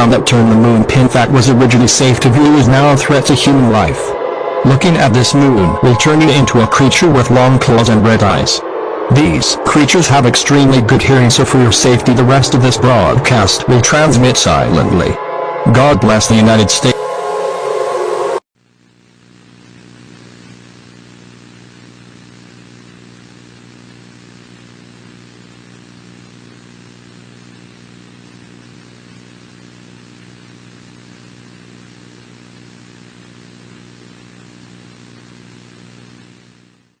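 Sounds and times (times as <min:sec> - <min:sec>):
low hum with hiss: 0:00.0 - 0:37.0.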